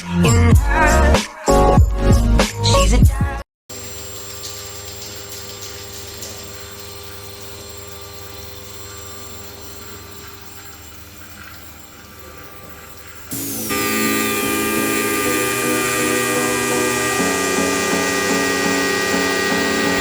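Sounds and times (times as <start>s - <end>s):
milling machine spindle whine: 3.8s - 20.0s.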